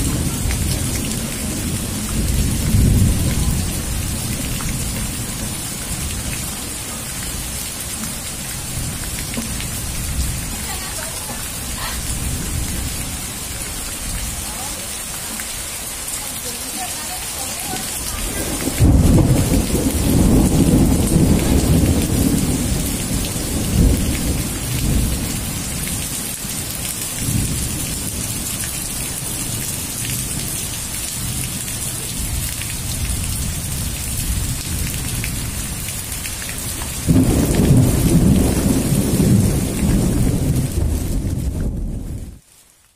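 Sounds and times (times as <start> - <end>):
low thunder rumbles: 0.0 - 14.9, 17.4 - 42.4
heavy rain: 0.0 - 42.9.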